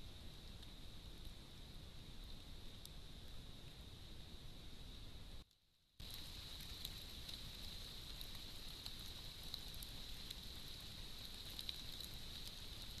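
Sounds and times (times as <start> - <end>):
faint microphone hiss: 0.0 - 13.0
light ticks: 0.5 - 3.8, 5.4 - 13.0.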